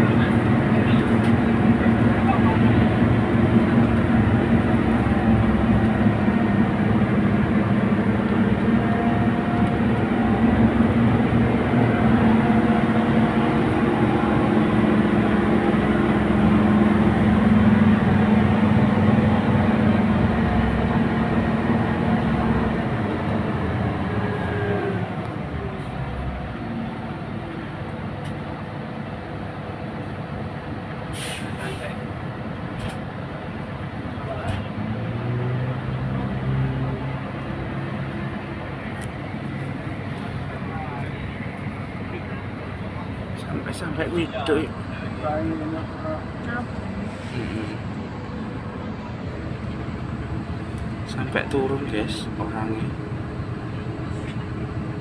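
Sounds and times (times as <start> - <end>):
bus engine and road noise: 0.0 - 55.0.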